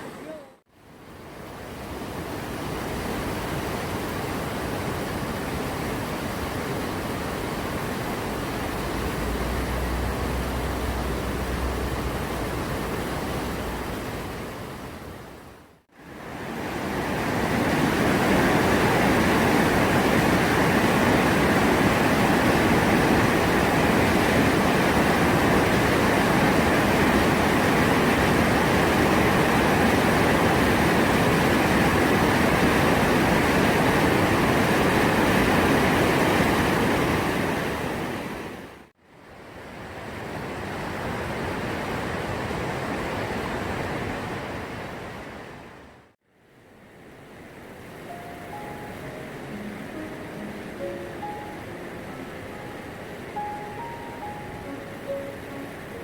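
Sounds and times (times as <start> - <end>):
stream rushing water: 0.0 - 56.0.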